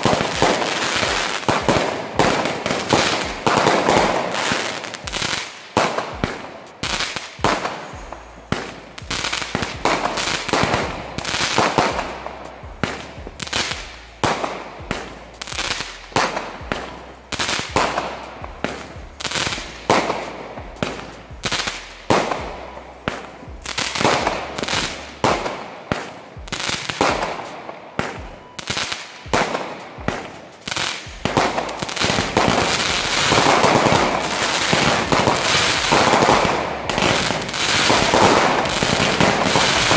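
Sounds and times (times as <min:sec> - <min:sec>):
firework shots banging: 0:00.0 - 0:39.9.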